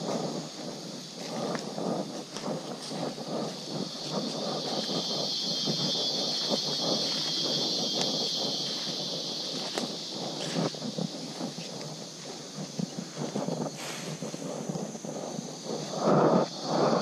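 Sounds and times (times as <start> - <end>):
footsteps crunching through dry leaves: 0.0 - 14.7
high steady drone: 0.0 - 17.0.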